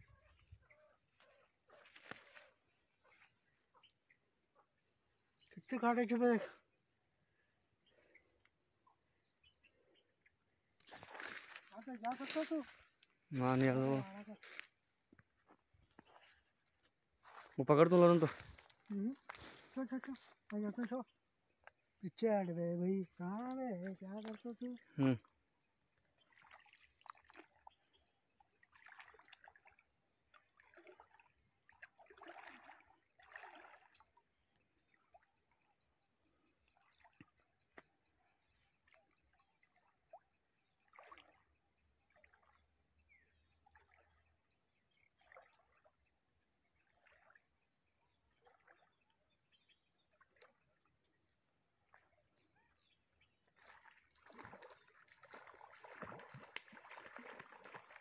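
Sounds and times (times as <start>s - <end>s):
pond water sloshing: 0.0s - 58.0s.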